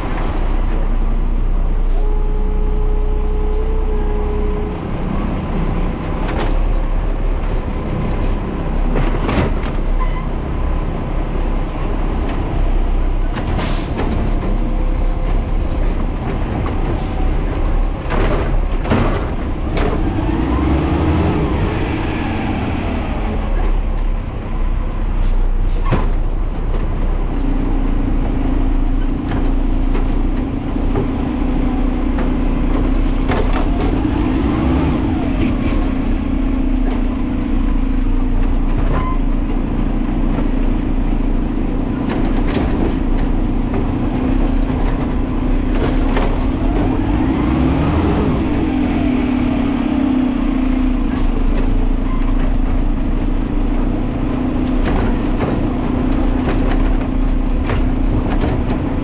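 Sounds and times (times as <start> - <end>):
garbage truck engine drone: 0.0 - 59.0
knocks and clanks: 5.7 - 10.8, 12.0 - 27.5, 28.1 - 59.0.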